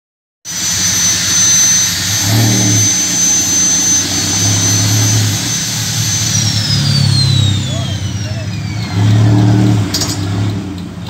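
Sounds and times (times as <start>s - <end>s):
thin high-pitched whine: 0.5s - 9.5s
pickup truck engine running: 0.5s - 11.0s.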